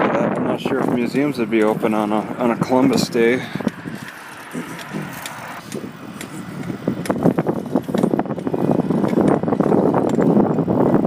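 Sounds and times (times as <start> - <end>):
bicycle clicks: 0.0 - 11.0
bicycle rattling: 0.0 - 11.0.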